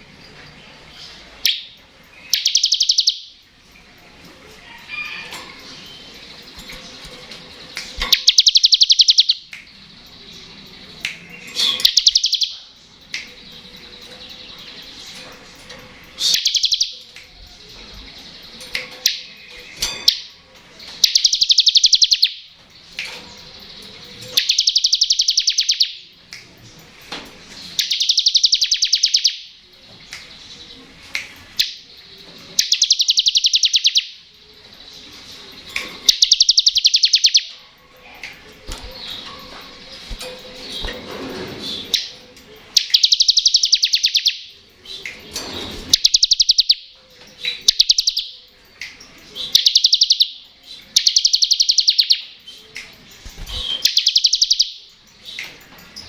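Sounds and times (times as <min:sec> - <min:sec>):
bird buzzy rattling trill: 0:01.4 - 0:26.1, 0:31.5 - 0:56.0.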